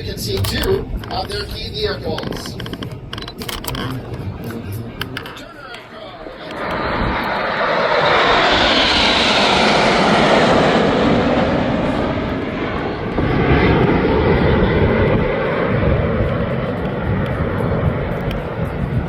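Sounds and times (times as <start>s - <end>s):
jet engines roaring past: 0.0s - 19.0s.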